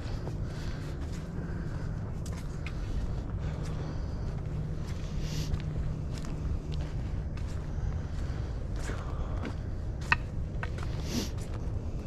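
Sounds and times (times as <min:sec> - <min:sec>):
footsteps on muddy trail: 0:00.0 - 0:12.0
steady low rumble: 0:00.0 - 0:12.0.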